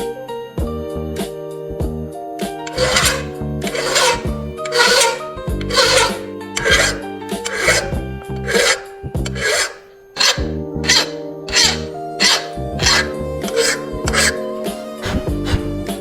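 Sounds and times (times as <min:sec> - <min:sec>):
hand rasping strokes: 0:02.7 - 0:16.0.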